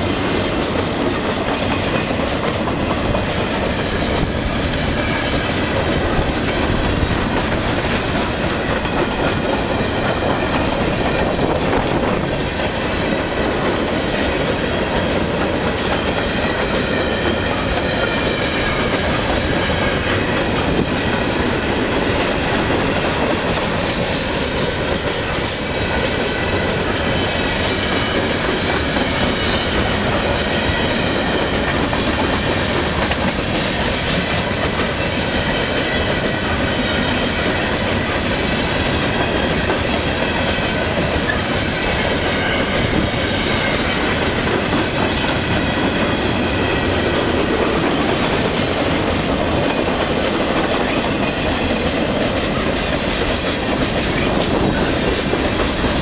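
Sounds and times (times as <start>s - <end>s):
train wheels rumbling on rail: 0.0s - 56.0s
wheels clicking over rail joints: 0.0s - 56.0s.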